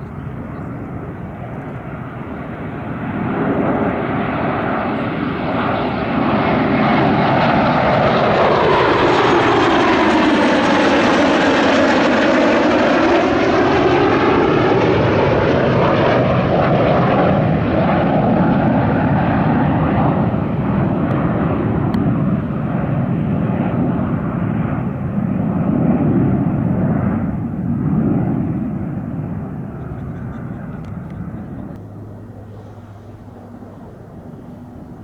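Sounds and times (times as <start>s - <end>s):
aircraft flying past: 0.0s - 35.0s.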